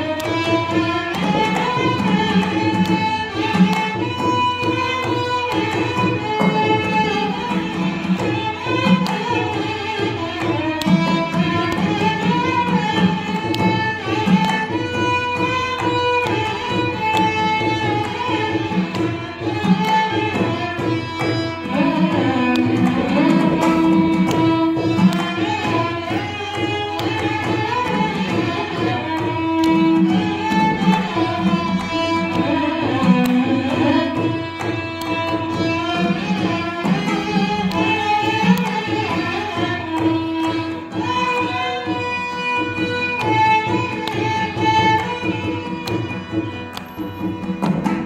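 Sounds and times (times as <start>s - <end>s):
mridangam drumming: 0.0s - 48.0s
violins playing melody: 0.0s - 48.0s.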